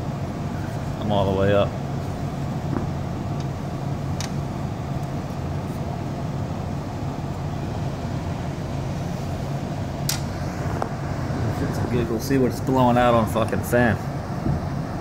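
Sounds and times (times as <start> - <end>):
air conditioner fan humming: 0.0 - 15.0.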